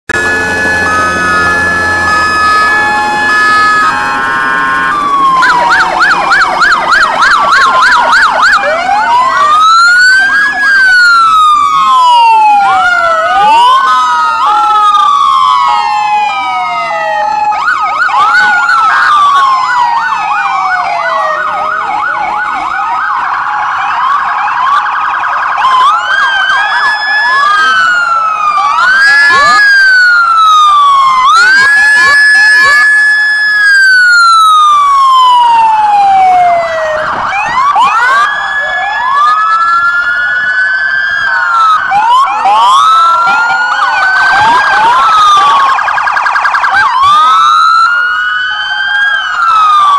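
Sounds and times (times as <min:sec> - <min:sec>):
police sirens wailing and yelping: 0:00.1 - 0:49.9.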